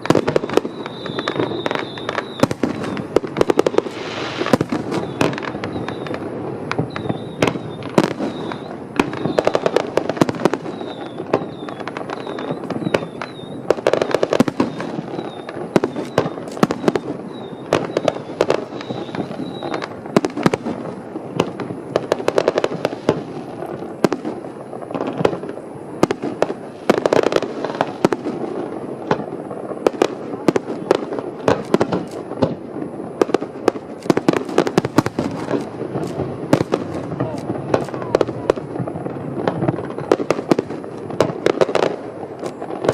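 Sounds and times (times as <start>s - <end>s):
firework shells booming: 0.0s - 42.9s
fireworks crackling and popping: 0.0s - 42.9s.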